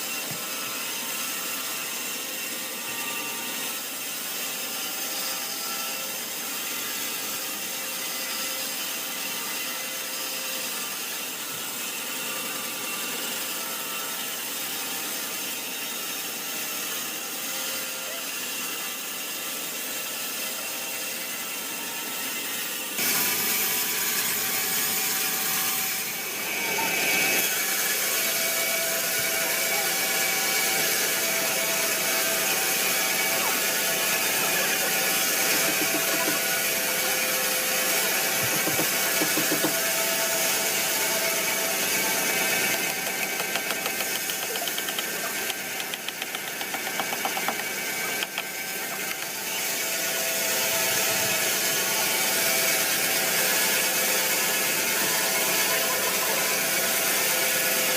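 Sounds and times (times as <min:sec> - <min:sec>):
sawmill saw cutting log: 0:00.0 - 0:57.9.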